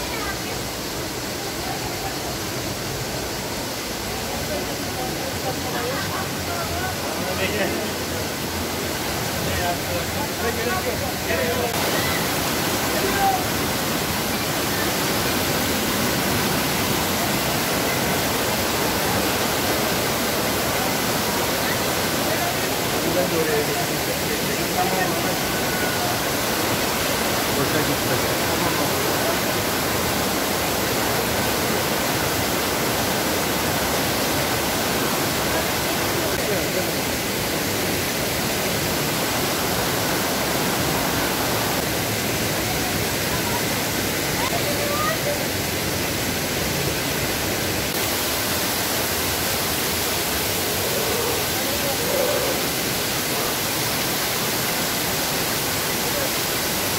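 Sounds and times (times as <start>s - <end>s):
fast-flowing water rushing: 0.0s - 56.9s.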